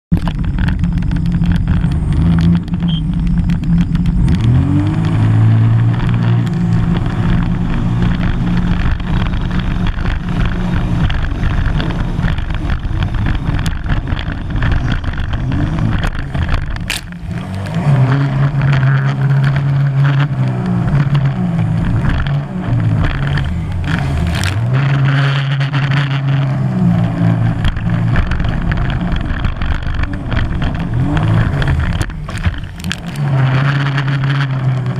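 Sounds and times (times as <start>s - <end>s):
personal watercraft engine revving: 0.3s - 34.9s.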